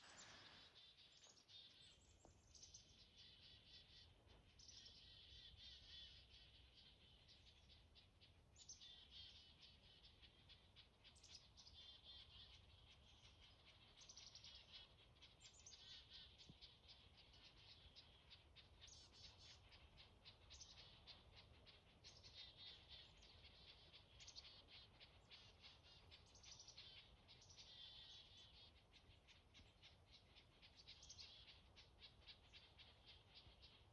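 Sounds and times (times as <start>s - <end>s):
faint small birds calling: 0.0s - 33.9s.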